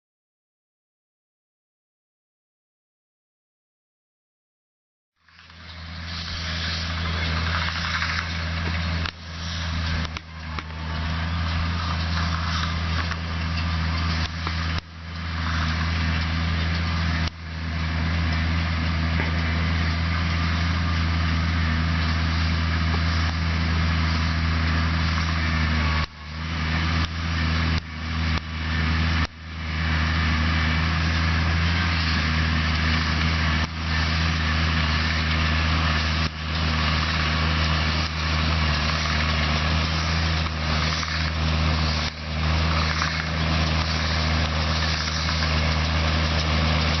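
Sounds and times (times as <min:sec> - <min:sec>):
tractor diesel engine running: 0:05.2 - 0:47.0.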